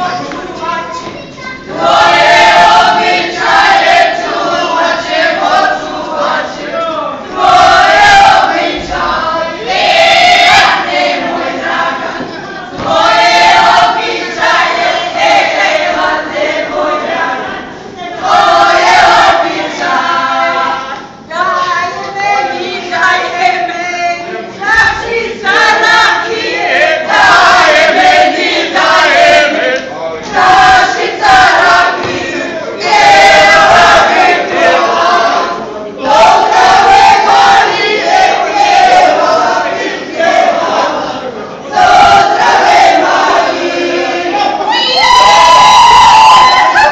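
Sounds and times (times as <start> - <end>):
group singing folk song: 1.7 - 46.9.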